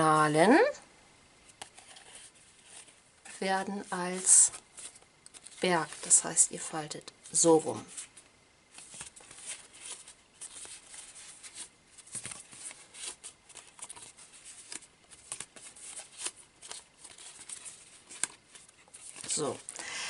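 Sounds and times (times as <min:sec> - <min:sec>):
paper rustling and crackling: 0:01.5 - 0:06.7, 0:07.7 - 0:19.8.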